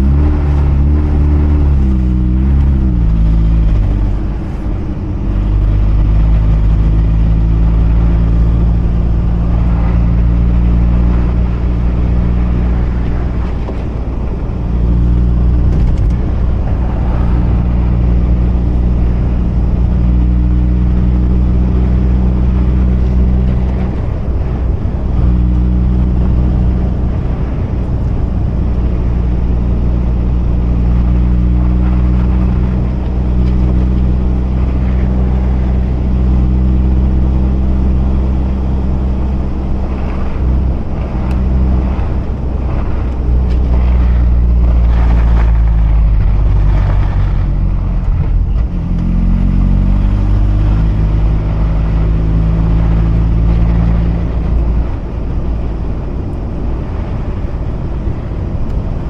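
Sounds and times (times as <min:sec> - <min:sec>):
rotary engine low drone: 0:00.0 - 0:59.0.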